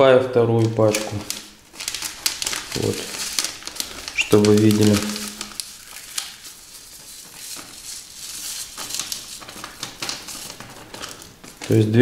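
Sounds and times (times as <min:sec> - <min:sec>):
granules pattering onto fish: 0:00.3 - 0:12.0.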